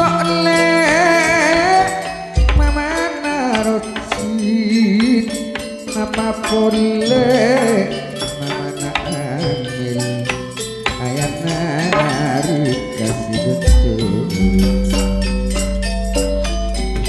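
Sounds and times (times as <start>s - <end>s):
person singing ornamented melody: 0.0s - 16.3s
bronze metallophones ringing: 0.0s - 17.0s.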